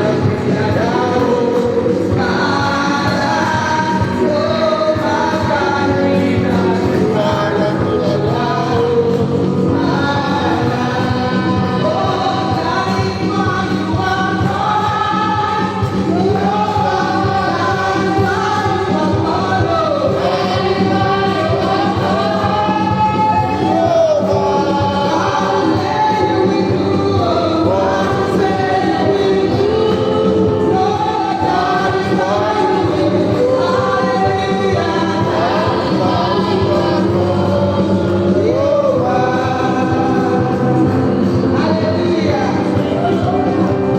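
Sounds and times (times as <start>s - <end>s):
church choir singing gospel: 0.0s - 43.9s.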